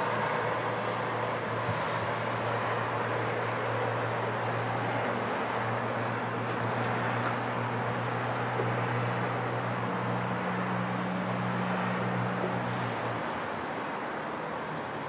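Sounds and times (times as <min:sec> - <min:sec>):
distant traffic noise: 0:00.0 - 0:15.0.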